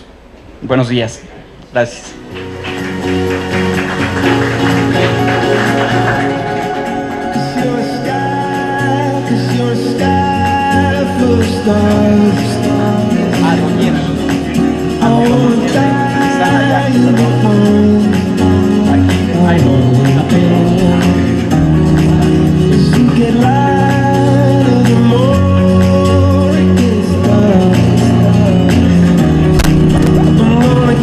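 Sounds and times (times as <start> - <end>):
upbeat music with singing: 2.2 - 31.0.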